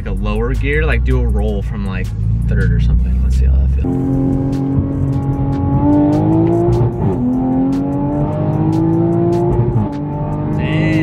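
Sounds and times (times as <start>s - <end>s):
turbocharged engine accelerating: 2.0s - 11.0s.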